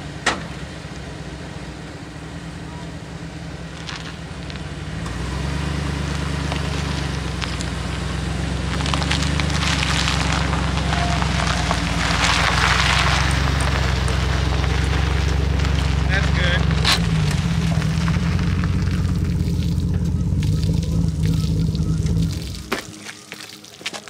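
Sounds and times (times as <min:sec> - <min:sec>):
truck engine running: 0:00.0 - 0:23.2
tyres crackling over grit: 0:02.6 - 0:24.0.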